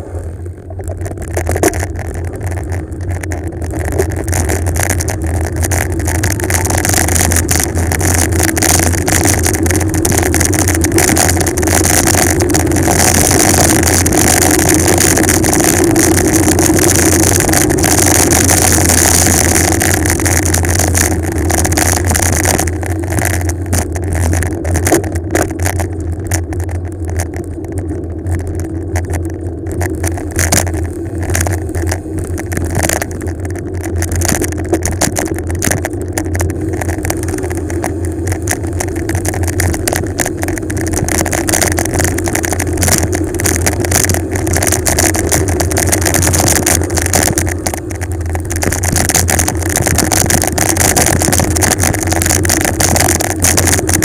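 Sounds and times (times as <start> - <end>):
rushing road noise: 0.0 - 54.0.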